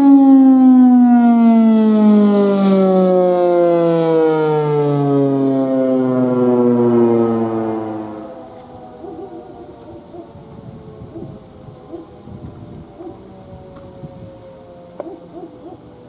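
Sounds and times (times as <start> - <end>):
siren winding down: 0.0 - 16.0.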